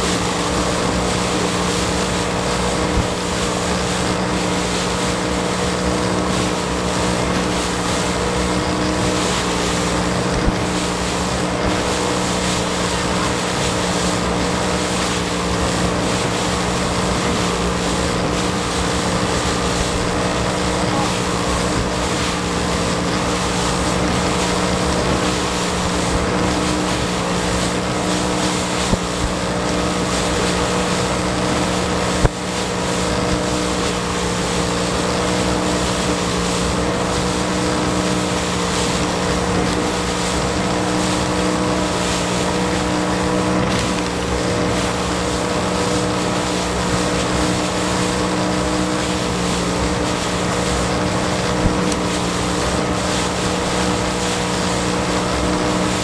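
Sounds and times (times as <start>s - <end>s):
outboard engine running: 0.0s - 56.0s
wind and water rushing: 0.0s - 56.0s.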